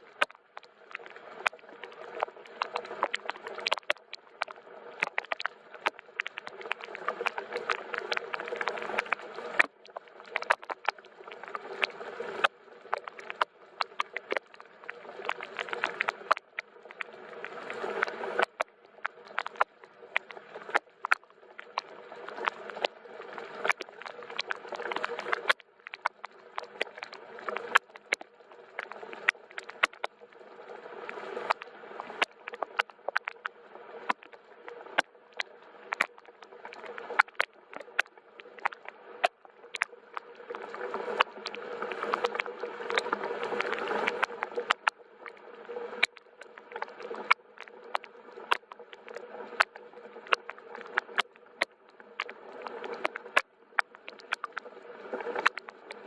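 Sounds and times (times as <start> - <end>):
soft rain with ticking drops: 0.0 - 56.0.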